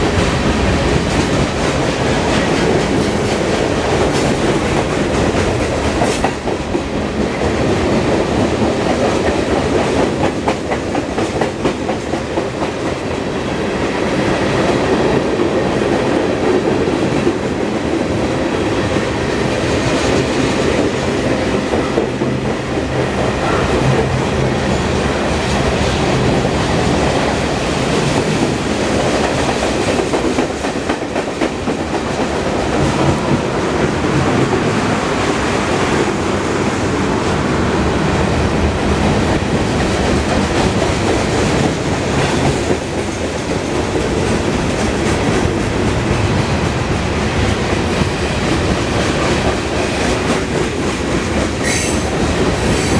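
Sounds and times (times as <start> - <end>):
freight train rumbling past: 0.0 - 52.9.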